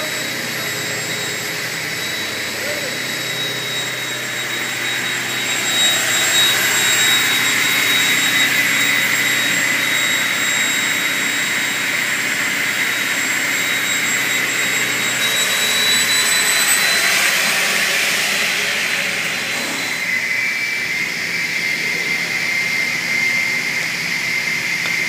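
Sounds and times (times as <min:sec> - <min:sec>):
saw machine whining: 0:00.0 - 0:25.0.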